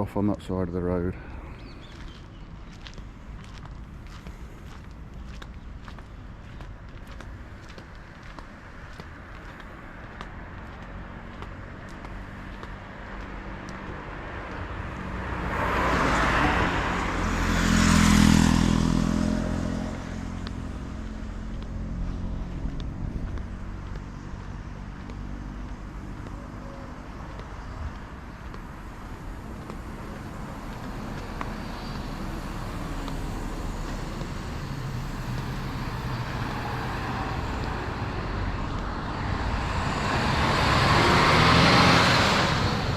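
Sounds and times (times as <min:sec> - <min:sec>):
background traffic: 0:00.0 - 0:42.9
vehicles passing: 0:00.0 - 0:42.9.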